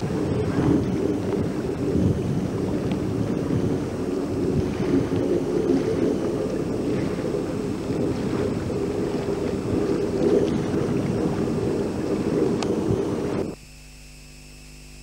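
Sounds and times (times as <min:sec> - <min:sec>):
wind blowing over microphone: 0:00.0 - 0:13.6.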